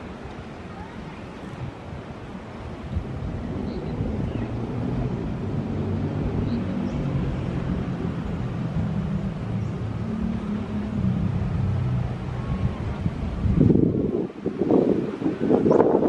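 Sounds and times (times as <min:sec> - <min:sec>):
motorcycles and vehicles passing: 0:03.0 - 0:16.0.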